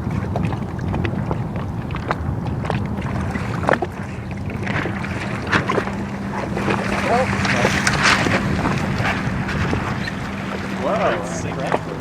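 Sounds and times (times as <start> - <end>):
water slapping against hull: 0.0 - 12.0
wind buffeting microphone: 0.0 - 12.0.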